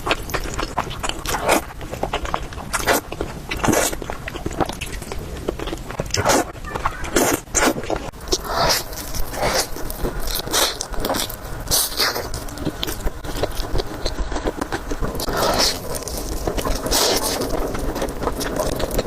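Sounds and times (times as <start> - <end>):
wet chewing and biting: 0.0 - 19.0.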